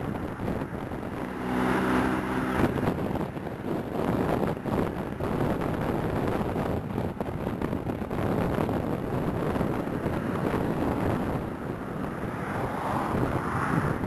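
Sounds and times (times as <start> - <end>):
car driving on highway: 0.0 - 14.0
wind on microphone: 0.0 - 14.0.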